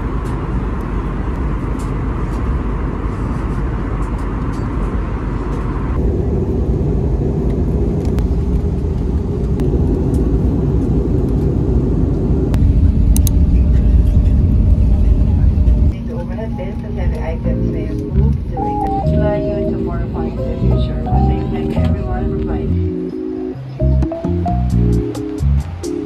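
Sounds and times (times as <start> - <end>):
vehicle rumble from inside: 0.0 - 22.9.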